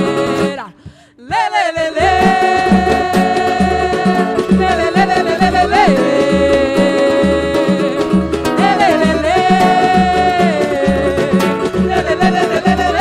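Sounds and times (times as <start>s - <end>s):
bass and percussion groove: 0.0s - 13.0s.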